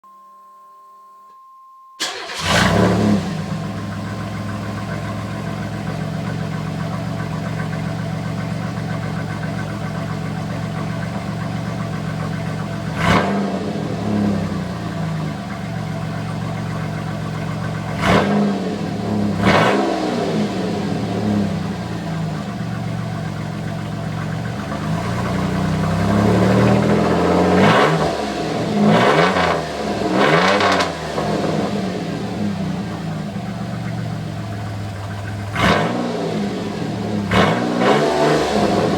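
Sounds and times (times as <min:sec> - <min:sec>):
car engine idling and revving: 0:02.0 - 0:38.9.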